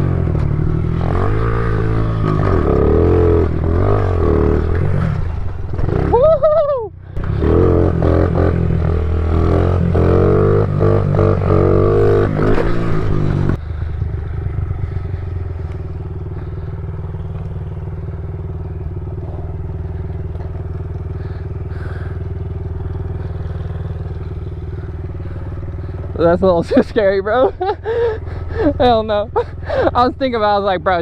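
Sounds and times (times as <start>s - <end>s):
pit bike engine revving: 0.0s - 31.0s.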